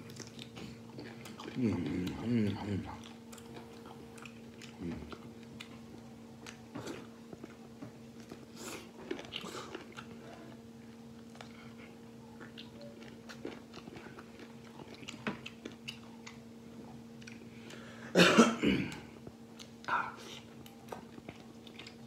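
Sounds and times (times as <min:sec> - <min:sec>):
person chewing meat off bones: 0:00.0 - 0:18.0, 0:18.8 - 0:22.0.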